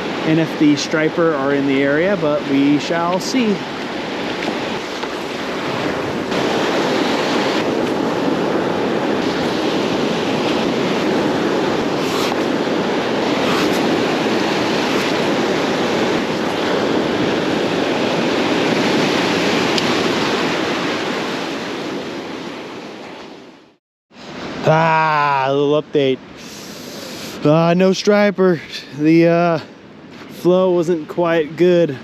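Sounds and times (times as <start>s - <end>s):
ocean surf washing onto beach: 0.0s - 23.6s, 24.2s - 32.0s.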